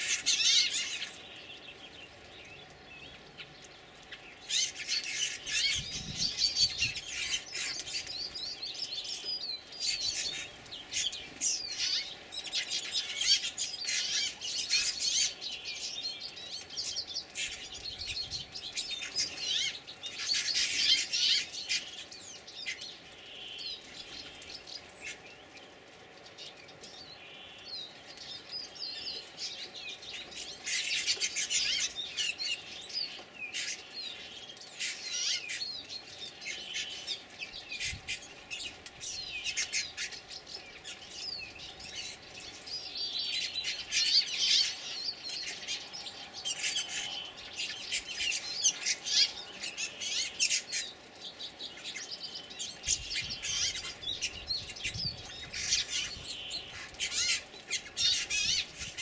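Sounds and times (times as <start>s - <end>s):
flock of birds chirping: 0.0s - 59.0s.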